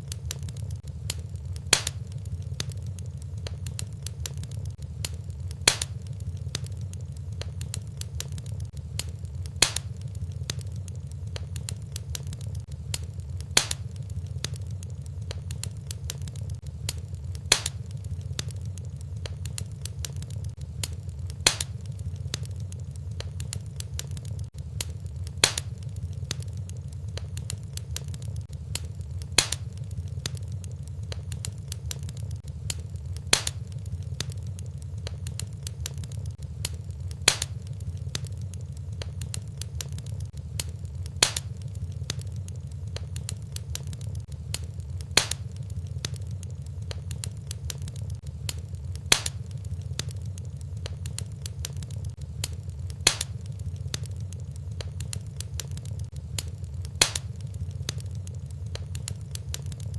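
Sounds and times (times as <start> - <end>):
low steady rumble: 0.0 - 59.9
wood fire crackling: 0.0 - 59.9
sharp pop from fire: 0.2 - 10.7, 11.4 - 18.6, 19.2 - 22.6, 23.2 - 30.4, 31.1 - 35.2, 35.8 - 38.3, 39.0 - 42.2, 43.0 - 46.2, 46.9 - 50.2, 50.8 - 58.0.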